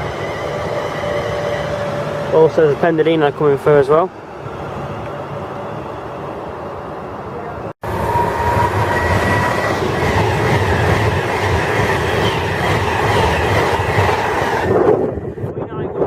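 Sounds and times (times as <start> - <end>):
electric train passing: 0.0 - 15.5.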